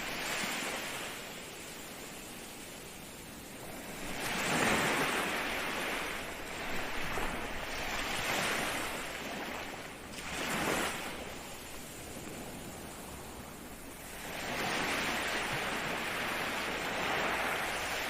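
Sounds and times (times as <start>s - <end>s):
ocean waves breaking on shore: 0.0s - 18.0s.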